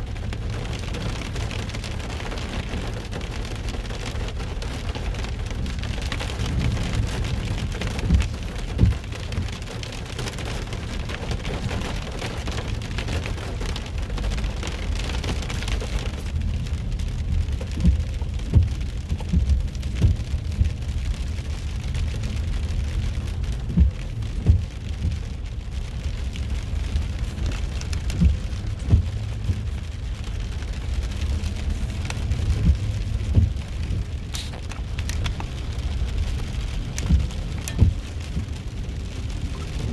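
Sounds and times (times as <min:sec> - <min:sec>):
heavy rain drumming on a car: 0:00.0 - 0:39.9
louder raindrop hits: 0:00.0 - 0:39.9
steady low rumble: 0:00.0 - 0:39.9.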